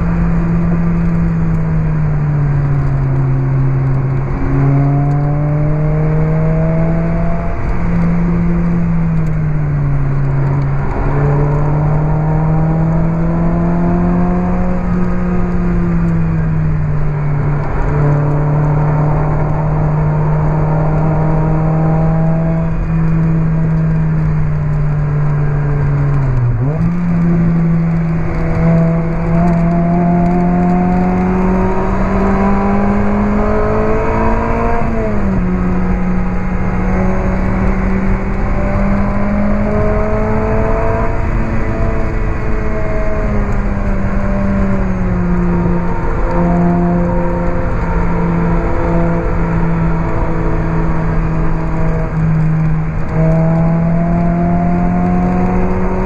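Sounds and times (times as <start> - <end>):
car engine revving with gear changes: 0.0 - 56.0.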